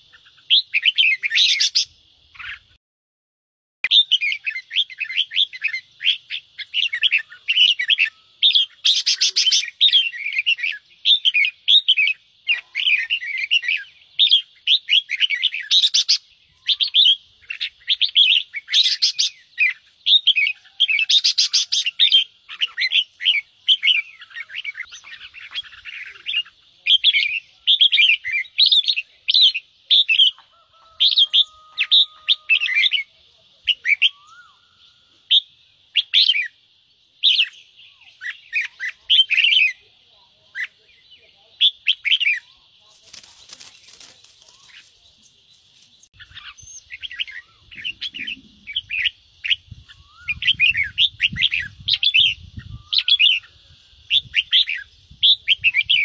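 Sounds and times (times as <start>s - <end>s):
harsh rattling bird calls: 0.0s - 2.8s, 3.9s - 56.0s
bulbuls chattering: 4.2s - 36.5s, 37.2s - 56.0s.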